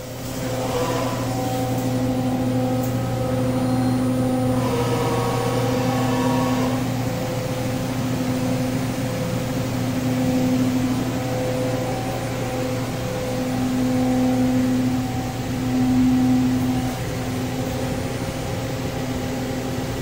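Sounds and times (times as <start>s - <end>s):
steady electrical hum: 0.0s - 20.0s
low tone: 0.5s - 20.0s.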